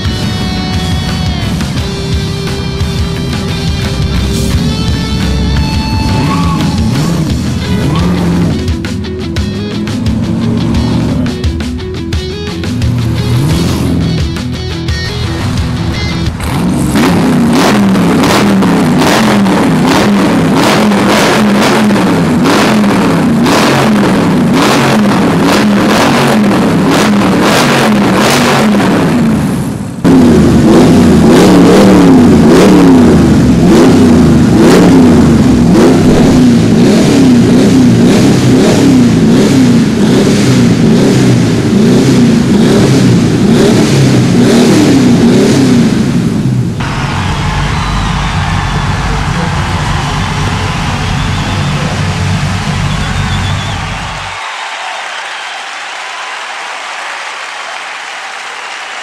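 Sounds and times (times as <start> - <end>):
loud engine blipping: 0.0 - 54.4
motorcycle engines revving: 0.0 - 54.4.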